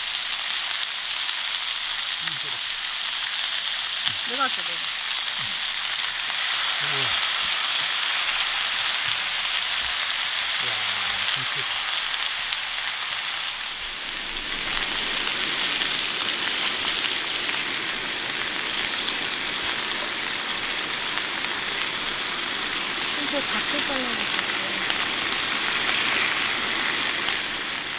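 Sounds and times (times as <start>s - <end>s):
meat sizzling on a grill: 0.0s - 27.9s.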